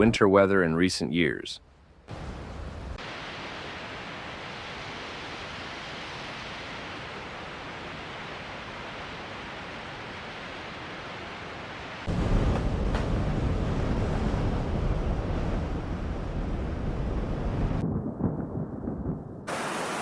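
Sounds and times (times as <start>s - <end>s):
blizzard wind rushing: 1.7s - 20.0s.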